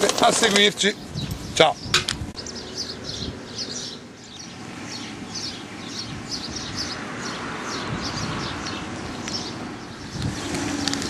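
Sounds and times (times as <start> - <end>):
outdoor background noise: 0.0 - 11.0
small bird chirping: 0.9 - 11.0.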